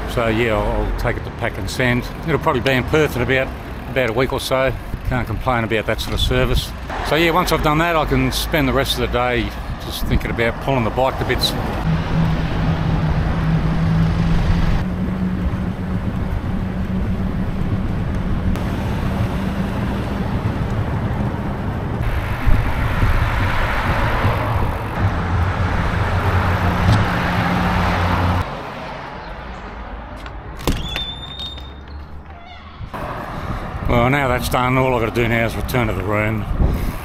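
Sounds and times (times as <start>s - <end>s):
city traffic hum: 0.0s - 37.0s.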